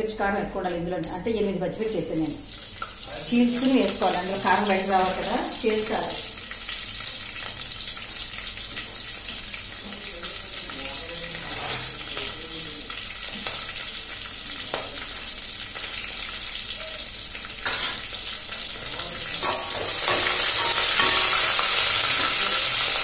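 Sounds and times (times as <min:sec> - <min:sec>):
spices sizzling in hot oil: 0:01.0 - 0:23.0.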